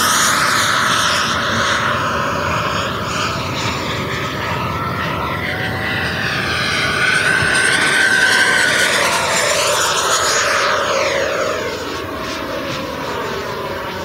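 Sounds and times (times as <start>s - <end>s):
model jet fan whine: 0.0s - 14.0s.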